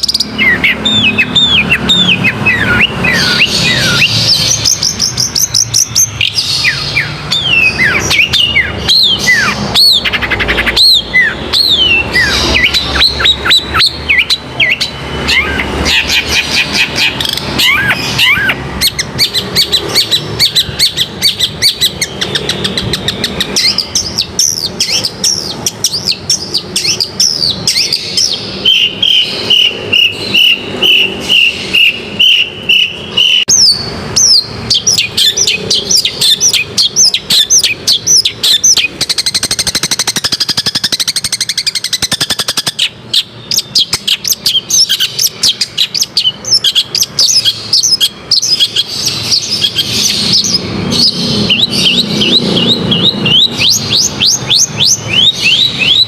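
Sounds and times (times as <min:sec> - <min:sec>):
bird singing chirps and trills: 0:00.0 - 0:56.0.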